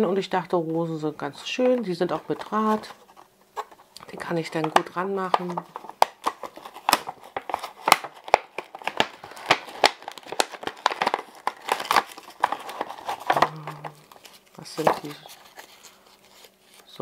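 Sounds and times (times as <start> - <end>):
plastic packaging crinkling: 1.4 - 17.0.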